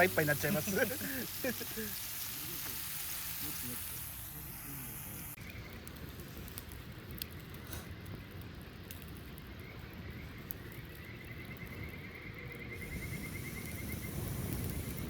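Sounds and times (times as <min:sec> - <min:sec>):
campfire crackling: 0:00.0 - 0:15.0
sharp pops of fire: 0:00.0 - 0:15.0.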